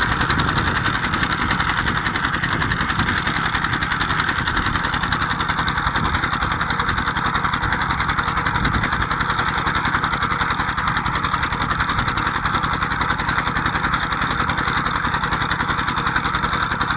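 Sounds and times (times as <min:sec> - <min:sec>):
stationary diesel engine running: 0:00.0 - 0:16.9.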